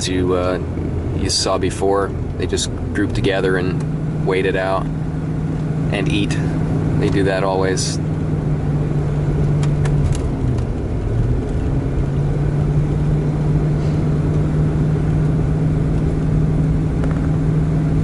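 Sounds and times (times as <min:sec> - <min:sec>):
car engine hum: 0:00.0 - 0:18.0
road and tyre noise: 0:00.0 - 0:18.0.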